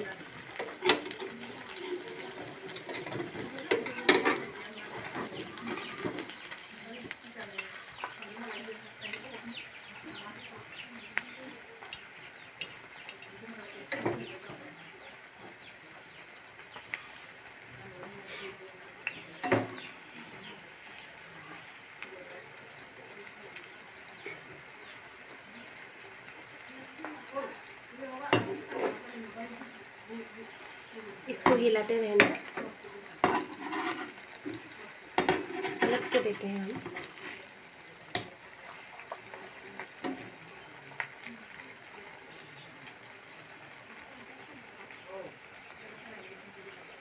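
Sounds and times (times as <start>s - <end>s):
pancakes sizzling in oil: 0.0s - 47.0s.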